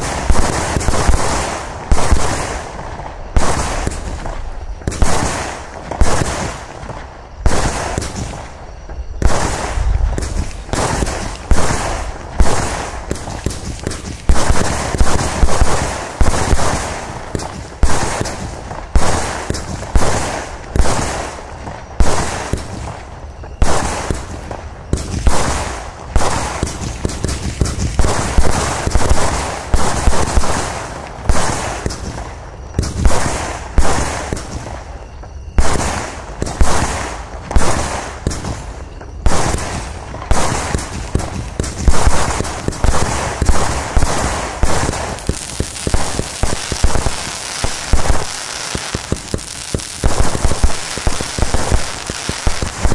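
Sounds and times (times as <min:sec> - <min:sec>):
firework hiss and crackle: 0:00.0 - 0:35.0, 0:35.6 - 0:52.9
firework battery reports: 0:00.0 - 0:52.9.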